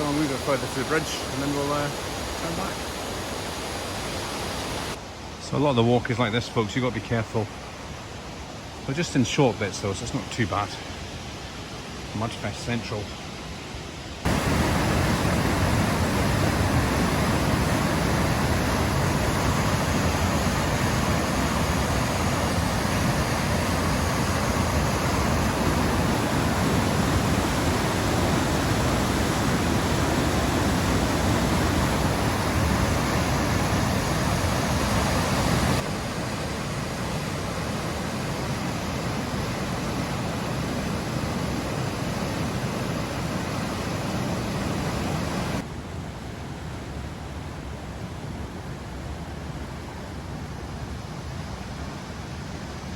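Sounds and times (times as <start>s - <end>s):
waterfall and river rushing: 0.0s - 52.9s.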